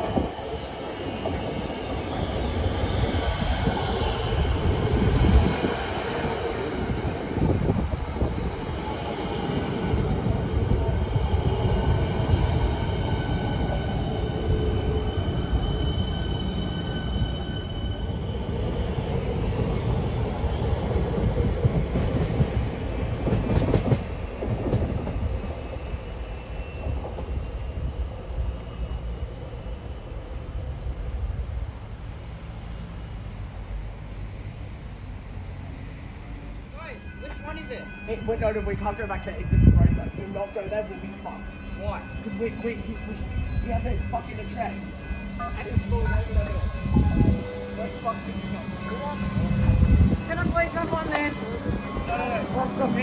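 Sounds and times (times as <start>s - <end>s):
train wheels rumbling on rails: 0.0s - 36.6s, 41.0s - 53.0s.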